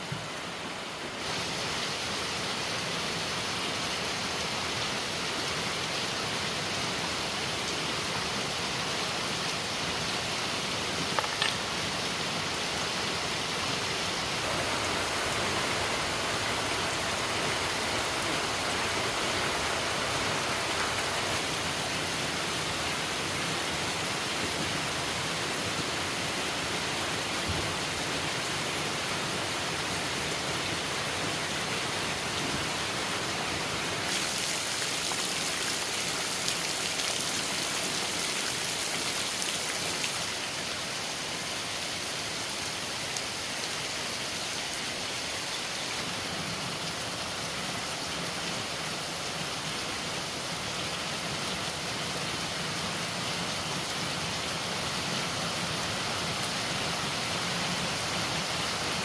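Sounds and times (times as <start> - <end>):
steady noise hiss: 0.0 - 59.0.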